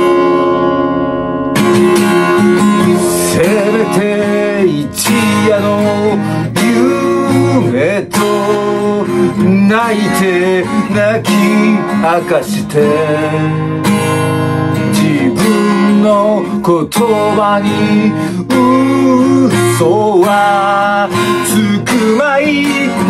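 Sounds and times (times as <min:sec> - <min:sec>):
acoustic guitar strumming: 0:00.0 - 0:23.0
wordless singing with vibrato: 0:01.9 - 0:23.0.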